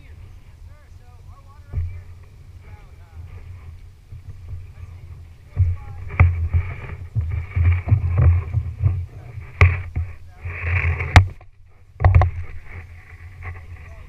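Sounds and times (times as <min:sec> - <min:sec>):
kayak paddle splashing: 0:01.6 - 0:13.9.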